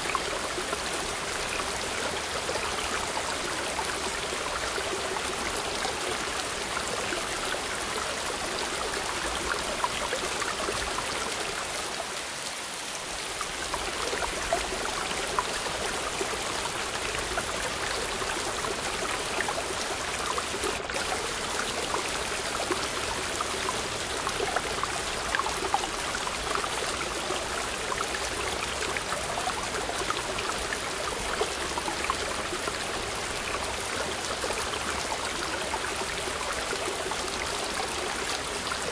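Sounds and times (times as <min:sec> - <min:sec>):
mountain stream over boulders: 0:00.0 - 0:38.9
small waterfalls pouring: 0:00.0 - 0:38.9.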